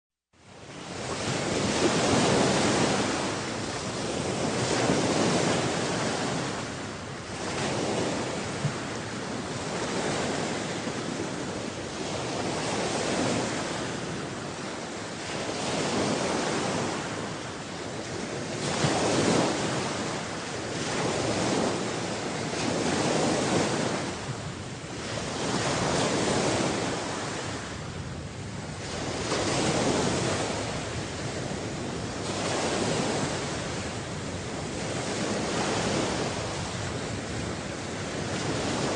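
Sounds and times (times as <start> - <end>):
waves breaking: 0.5 - 38.9
wind buffeting microphone: 0.5 - 38.9.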